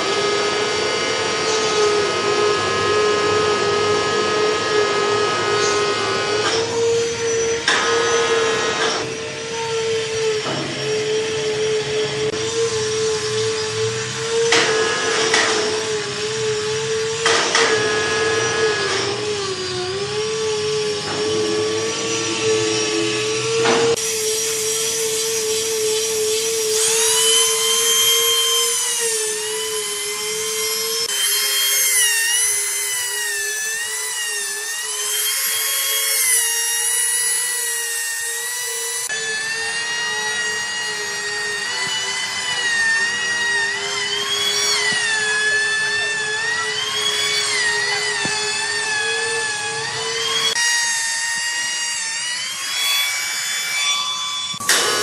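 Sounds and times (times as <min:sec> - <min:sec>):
power tool motor whine cutting wood: 0:00.0 - 0:55.0.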